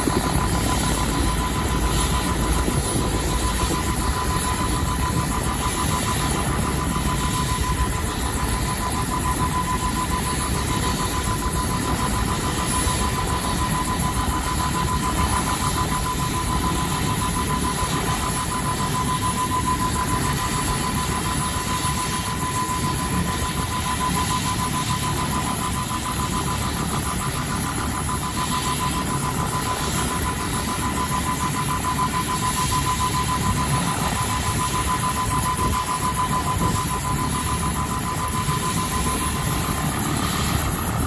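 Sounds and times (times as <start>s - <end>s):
helicopter turbine whine: 0.0s - 41.0s.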